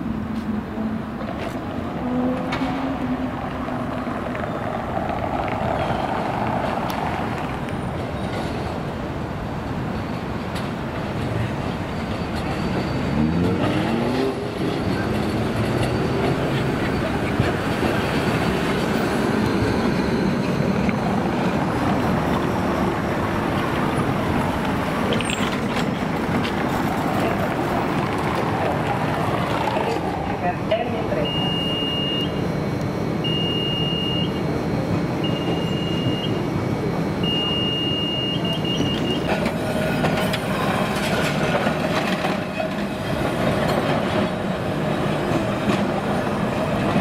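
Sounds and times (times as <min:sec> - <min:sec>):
tram motor whine: 0:00.0 - 0:47.0
tram wheels rolling on rails: 0:00.0 - 0:47.0.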